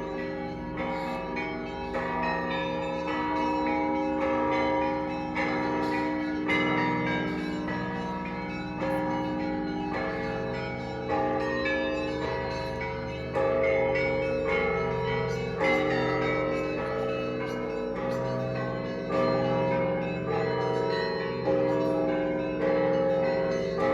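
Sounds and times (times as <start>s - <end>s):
church bells ringing: 0.0s - 23.9s.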